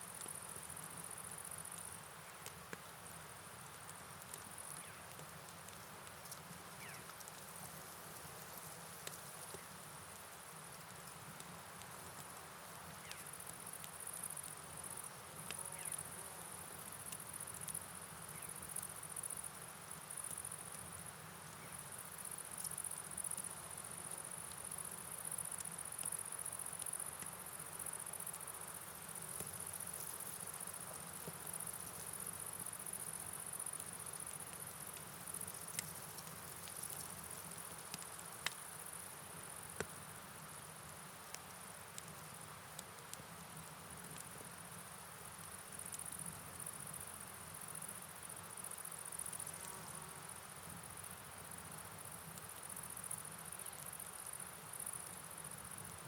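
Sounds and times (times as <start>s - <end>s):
rain and river hiss: 0.0s - 56.0s.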